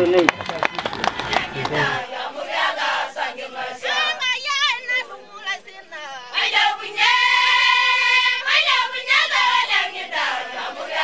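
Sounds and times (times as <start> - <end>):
women singing in high voices: 1.4 - 11.0.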